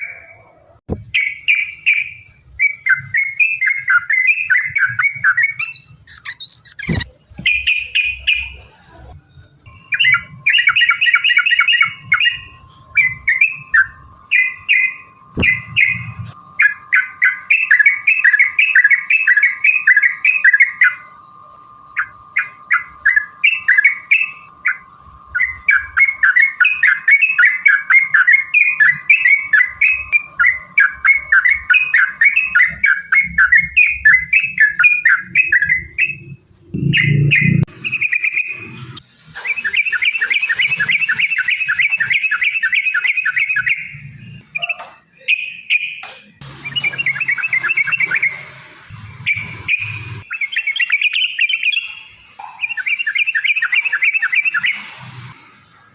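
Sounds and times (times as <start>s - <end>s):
bulbul singing chattering notes: 1.0s - 8.7s, 9.5s - 54.9s.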